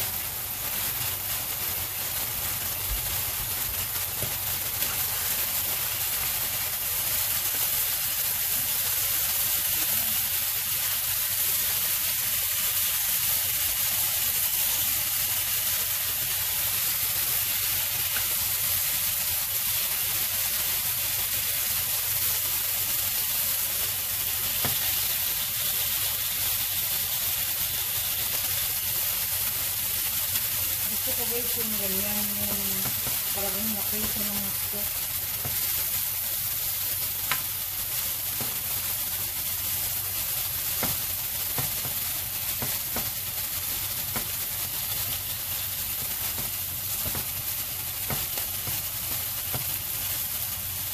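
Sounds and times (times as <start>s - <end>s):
meat sizzling in a pan: 0.0s - 50.9s.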